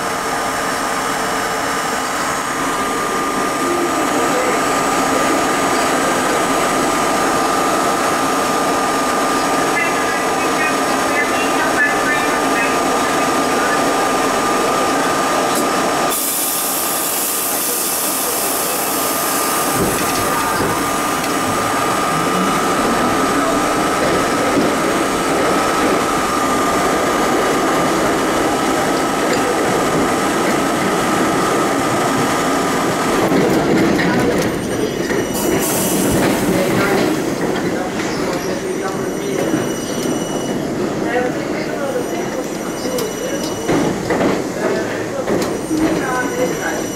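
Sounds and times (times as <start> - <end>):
subway train rumbling in tunnel: 0.0 - 46.9.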